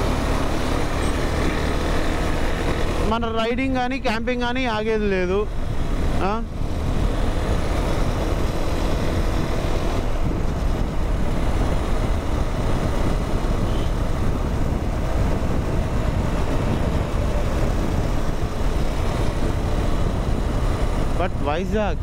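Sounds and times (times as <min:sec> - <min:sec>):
road noise: 0:00.0 - 0:22.0
wind rushing over microphone: 0:00.0 - 0:22.0.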